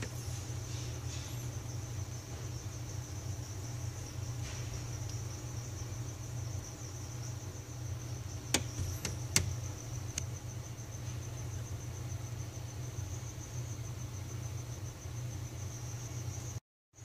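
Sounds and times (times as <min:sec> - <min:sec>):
low steady hum: 0:00.0 - 0:16.6
cricket chirping: 0:00.0 - 0:17.0.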